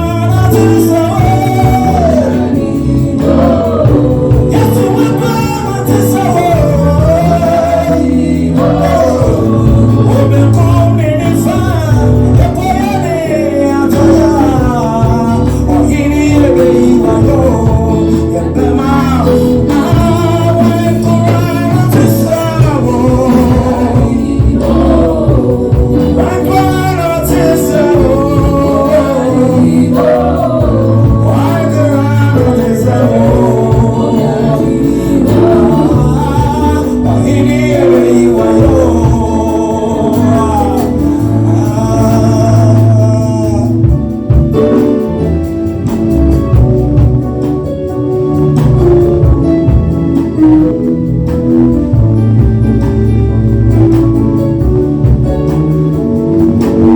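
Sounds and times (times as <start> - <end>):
gospel singing: 0.0 - 56.9
sustained bass line: 0.0 - 56.9.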